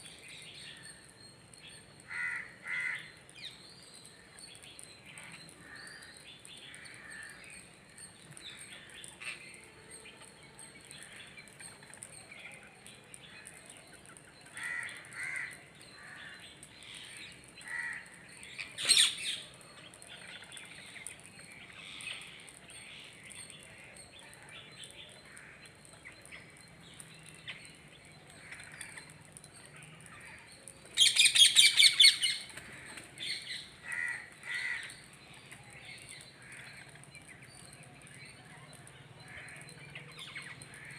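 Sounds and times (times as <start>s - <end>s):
birds calling and chirping: 0.0s - 40.9s.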